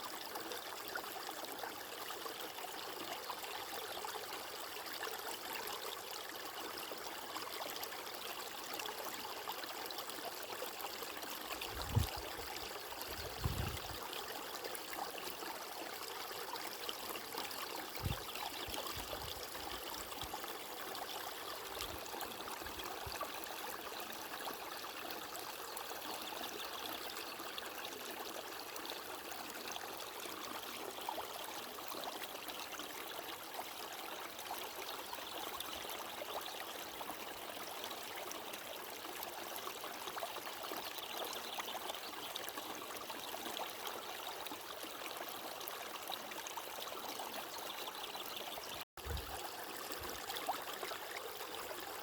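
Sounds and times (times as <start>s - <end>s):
stream water flowing: 0.0s - 52.0s.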